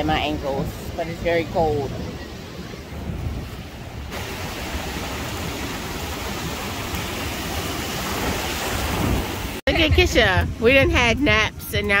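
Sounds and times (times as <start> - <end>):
ocean surf breaking waves: 0.0 - 9.8.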